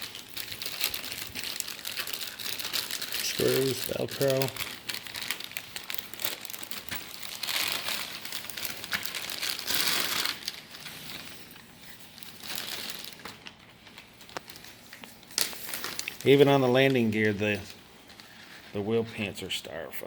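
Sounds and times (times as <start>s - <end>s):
plastic packaging crinkling: 0.0s - 19.5s.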